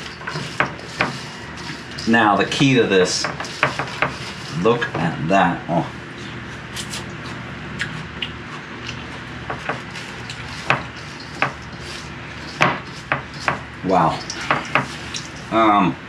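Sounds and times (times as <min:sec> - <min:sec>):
low kitchen background: 0:00.0 - 0:16.0.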